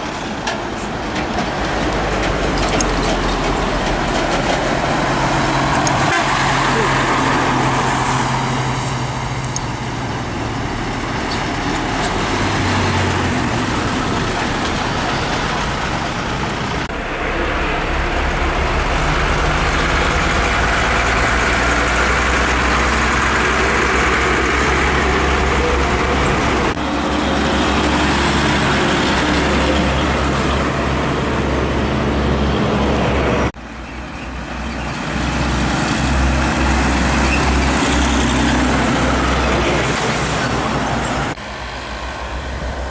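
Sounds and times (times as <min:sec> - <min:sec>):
diesel trucks passing: 0:00.0 - 0:42.9
tyre and road noise: 0:00.0 - 0:42.9.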